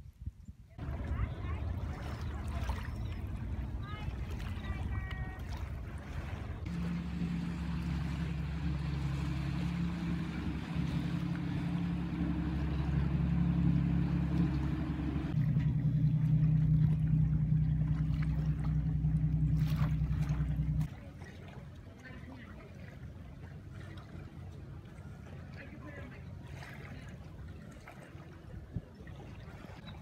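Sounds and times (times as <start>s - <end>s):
boat engines droning: 0.8s - 30.0s.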